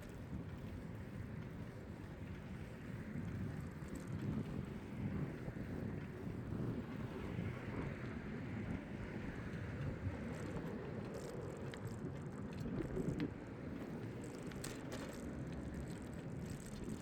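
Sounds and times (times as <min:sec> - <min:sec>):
bicycle rolling: 0:00.0 - 0:08.0, 0:08.6 - 0:17.0.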